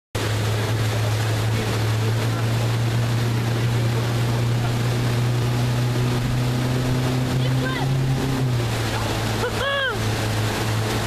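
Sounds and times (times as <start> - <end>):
motorboat engine drone: 0.2 - 11.0
wind and water rushing: 0.2 - 11.0.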